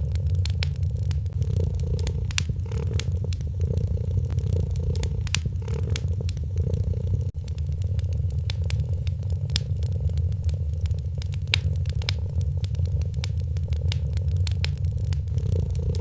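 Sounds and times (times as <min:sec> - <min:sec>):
cat purring: 0:00.0 - 0:16.0
wood fire crackling and popping: 0:00.0 - 0:16.0.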